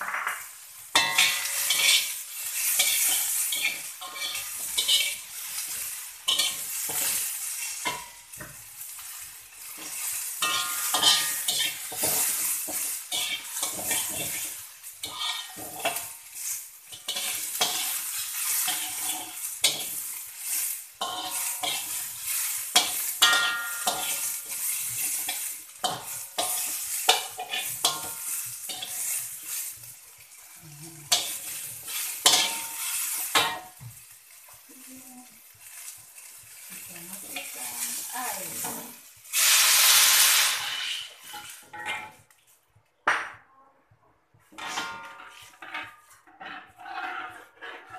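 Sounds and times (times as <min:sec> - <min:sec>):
food sizzling in oil: 0:00.0 - 0:42.7, 0:44.4 - 0:47.9
water hissing in a hot wok: 0:00.3 - 0:42.3
metal spatula scraping a wok: 0:00.7 - 0:34.6, 0:35.4 - 0:42.3, 0:44.5 - 0:47.9.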